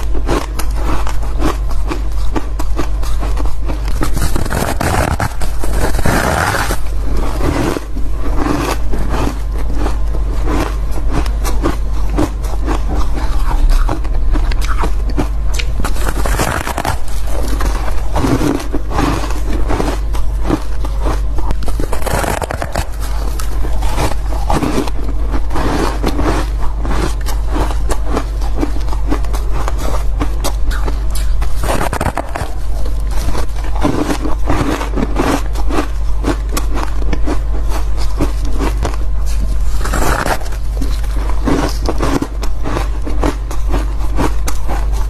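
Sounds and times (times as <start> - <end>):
low hum: 0.0 - 45.0
person chewing ice crunching: 0.0 - 45.0.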